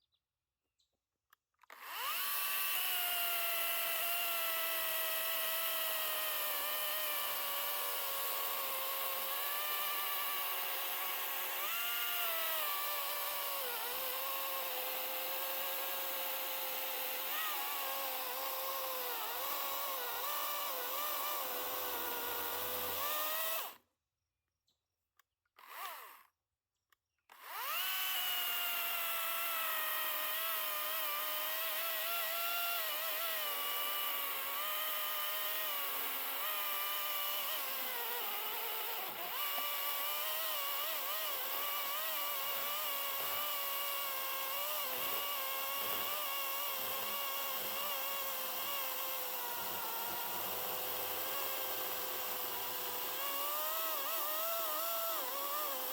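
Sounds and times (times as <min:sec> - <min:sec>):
electric chainsaw motor whine: 0:01.6 - 0:23.8, 0:25.6 - 0:26.3, 0:27.3 - 0:55.9.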